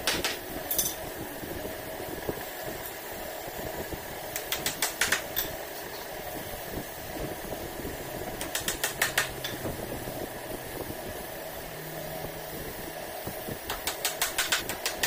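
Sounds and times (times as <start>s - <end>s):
mechanical fan humming: 0.0s - 15.0s.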